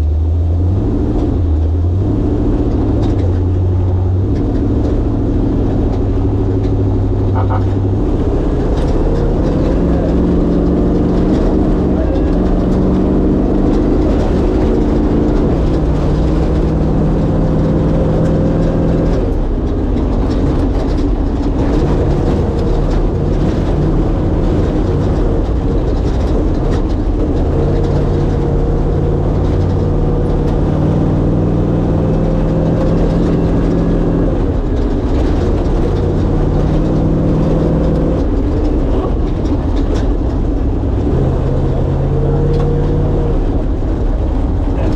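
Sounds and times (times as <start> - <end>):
car engine running: 0.0 - 44.9
road noise: 0.0 - 44.9.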